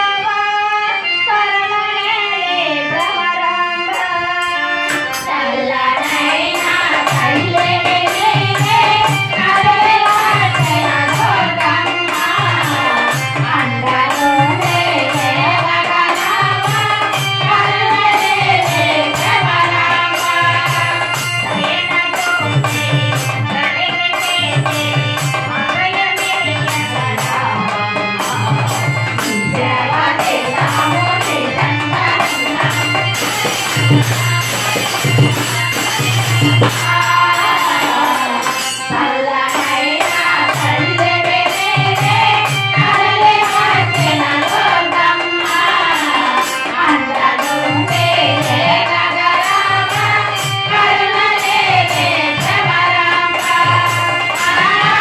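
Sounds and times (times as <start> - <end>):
harmonium: 0.0 - 55.0
voices singing together: 0.0 - 55.0.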